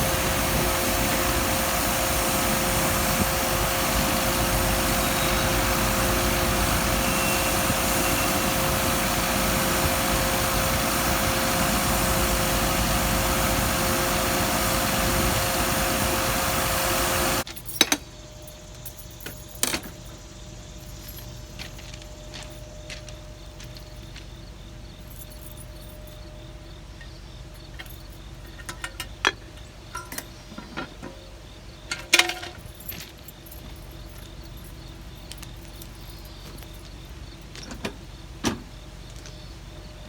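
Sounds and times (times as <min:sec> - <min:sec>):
engine idling with faint whine: 0:00.0 - 0:40.0.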